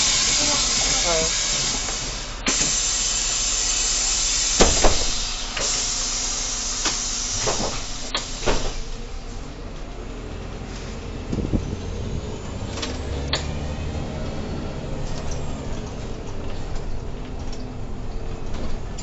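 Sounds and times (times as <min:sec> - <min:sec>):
bus running with loud hiss: 0:00.0 - 0:19.0.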